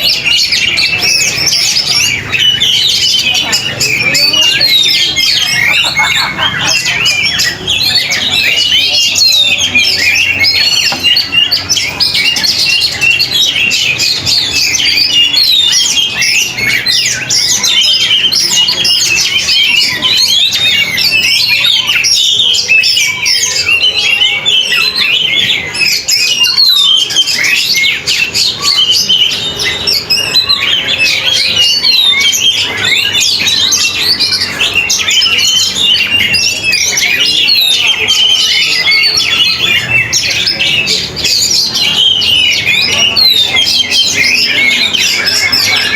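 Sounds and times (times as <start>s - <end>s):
magpie-robin singing: 0.0s - 45.9s.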